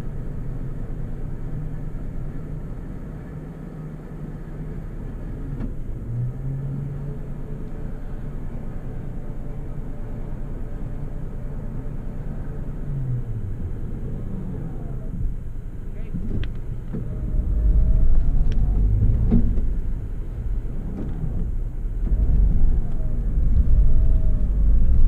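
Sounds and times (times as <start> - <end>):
vehicle engine rumbling inside cab: 0.0 - 25.0.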